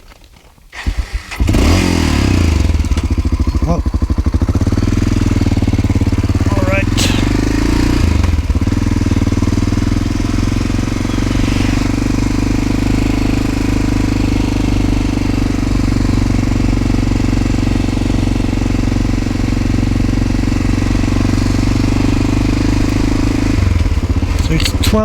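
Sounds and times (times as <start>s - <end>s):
single-cylinder engine running: 0.8s - 25.0s.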